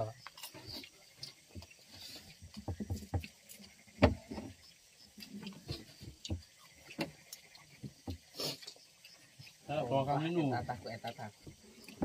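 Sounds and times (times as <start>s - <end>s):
chewing: 0.1s - 9.9s, 10.8s - 12.0s.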